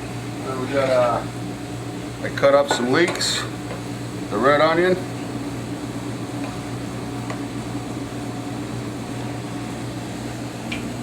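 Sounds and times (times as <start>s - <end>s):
fan-like mechanical hum: 0.0s - 11.0s.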